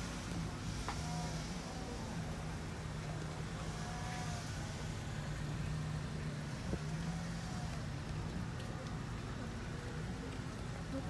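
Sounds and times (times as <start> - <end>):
background noise: 0.0 - 11.0.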